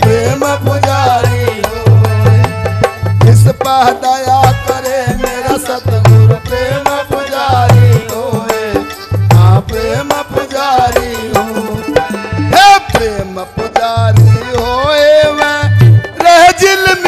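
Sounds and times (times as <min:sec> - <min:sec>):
heavy hand drum beat: 0:00.0 - 0:17.0
man singing: 0:00.0 - 0:17.0.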